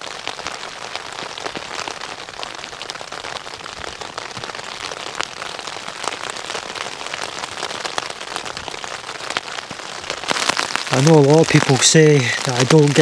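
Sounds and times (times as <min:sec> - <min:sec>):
heavy rain: 0:00.0 - 0:13.0
raindrops pattering close by: 0:00.0 - 0:13.0.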